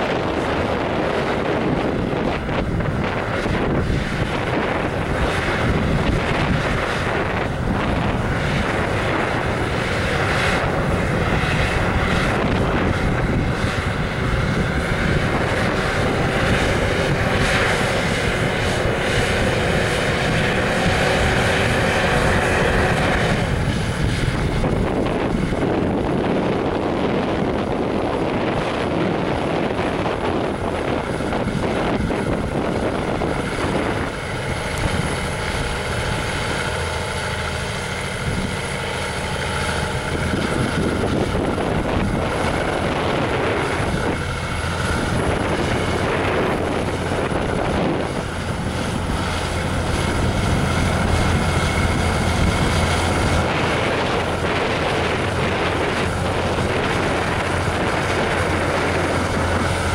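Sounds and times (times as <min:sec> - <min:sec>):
truck diesel engines laboring: 0:00.0 - 0:59.9.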